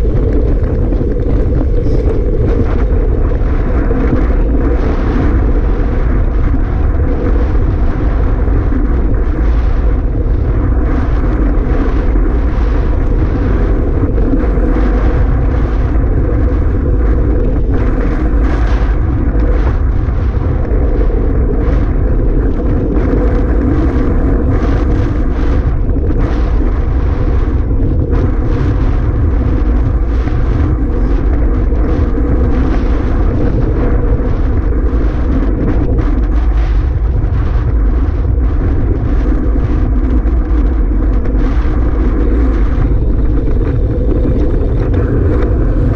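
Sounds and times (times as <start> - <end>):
strong wind on microphone: 0.0 - 45.9.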